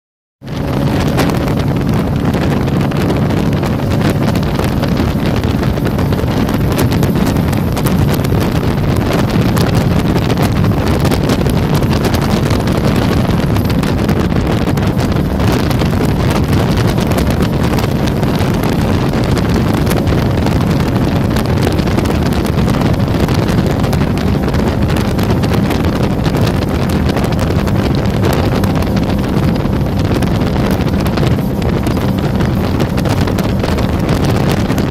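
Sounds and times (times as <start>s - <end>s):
boat engine running: 0.4s - 34.9s
wind buffeting microphone: 0.4s - 34.9s.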